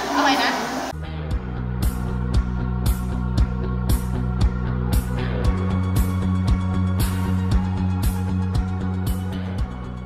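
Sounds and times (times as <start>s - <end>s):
music with drum beat and bass: 1.1s - 10.0s.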